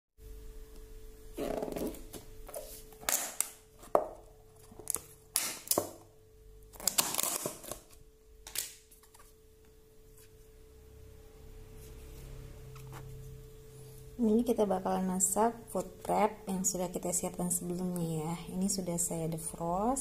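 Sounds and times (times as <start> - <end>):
faint steady hum: 0.2 - 20.0.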